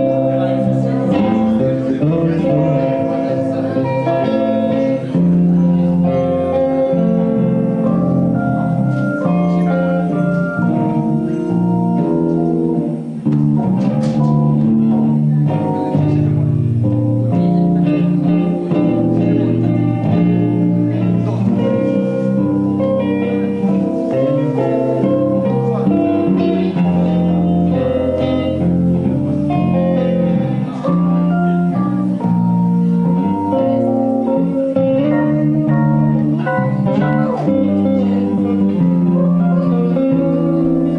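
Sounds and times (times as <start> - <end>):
electric guitar picked notes: 0.0 - 40.9
electric keyboard chords: 0.0 - 40.9.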